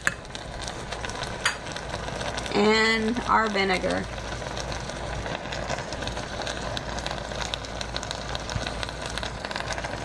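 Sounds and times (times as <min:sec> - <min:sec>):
greens sizzling and popping: 0:00.0 - 0:10.0
steady low hum: 0:00.0 - 0:10.0.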